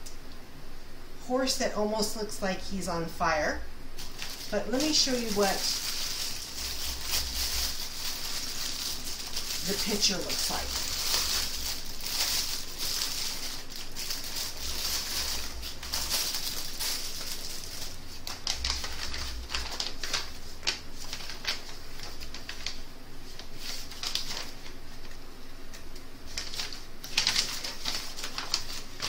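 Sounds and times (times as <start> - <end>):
plastic bag crinkling: 3.9 - 29.0
paper rustling: 4.0 - 29.0.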